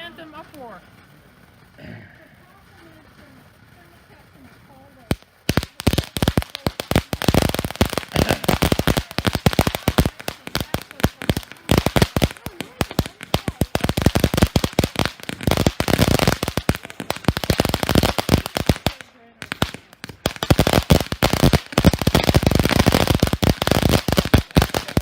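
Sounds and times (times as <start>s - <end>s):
fireworks barrage of sharp bangs: 0.0s - 25.0s.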